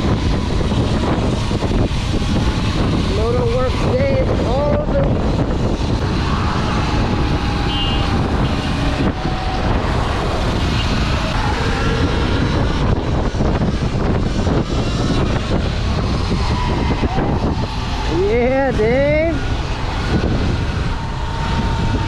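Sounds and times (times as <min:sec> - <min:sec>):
vehicle noise: 0:00.0 - 0:22.0
wind buffeting microphone: 0:00.0 - 0:22.0.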